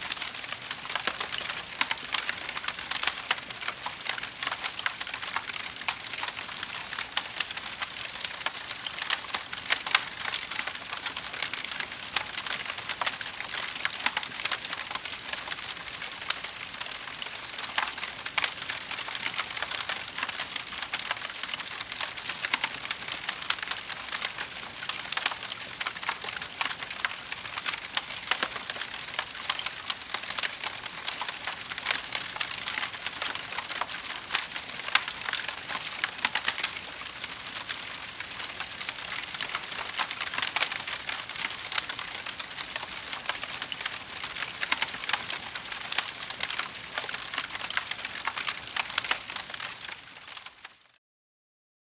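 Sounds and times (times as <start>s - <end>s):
wood fire crackling: 0.0s - 50.6s.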